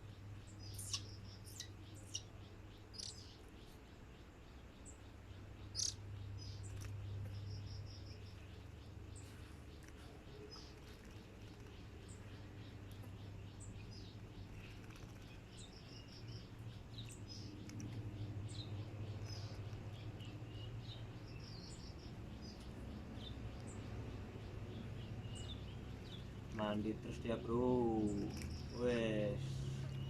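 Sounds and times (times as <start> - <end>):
birds chirping: 0.0 - 30.0
steady low hum: 0.0 - 30.0.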